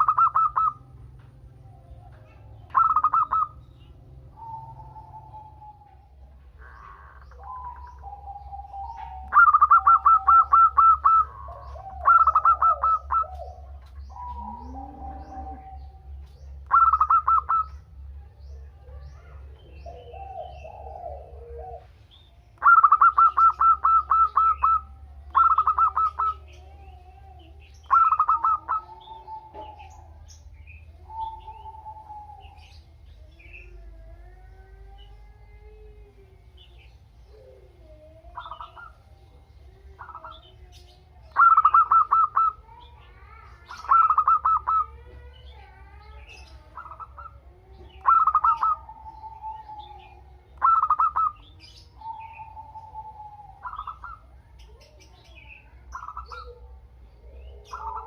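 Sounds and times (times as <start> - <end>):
doves rattling trills: 0.0 - 34.8, 36.4 - 55.2
doves cooing: 0.0 - 58.0.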